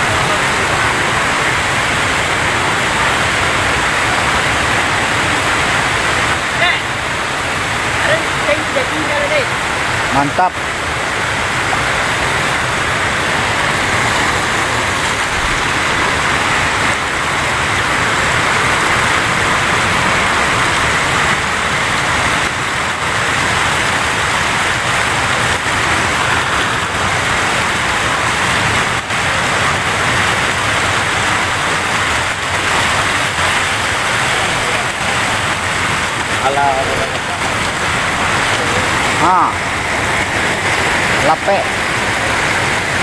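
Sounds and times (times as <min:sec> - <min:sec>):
water rushing over weir: 0:00.0 - 0:43.0.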